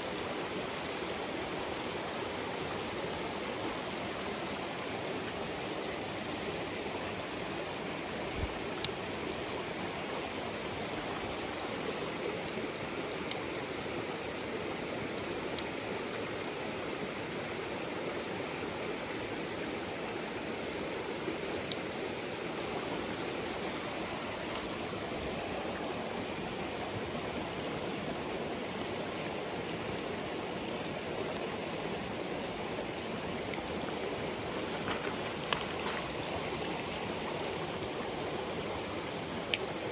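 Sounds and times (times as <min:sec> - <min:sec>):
rocky mountain stream rushing: 0:00.0 - 0:39.9.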